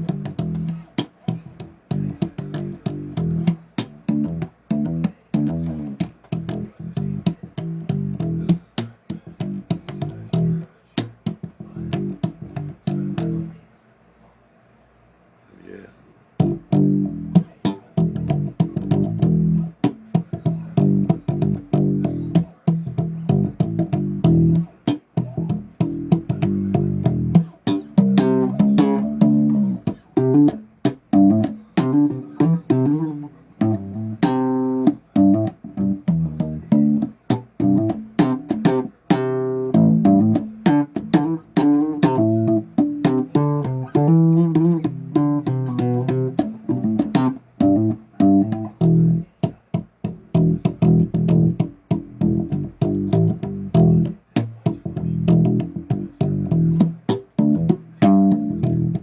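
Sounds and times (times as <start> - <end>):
bass guitar plucked notes: 0.0 - 13.6, 16.4 - 59.0.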